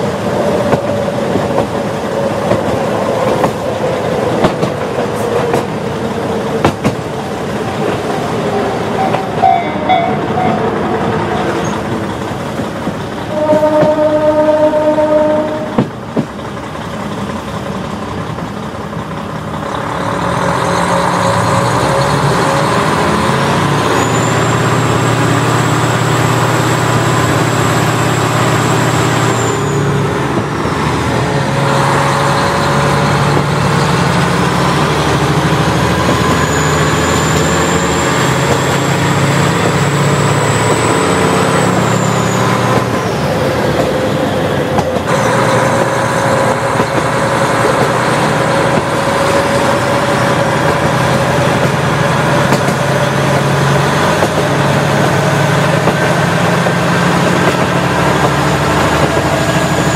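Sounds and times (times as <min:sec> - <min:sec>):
diesel railcar engine running: 0:00.0 - 0:59.9.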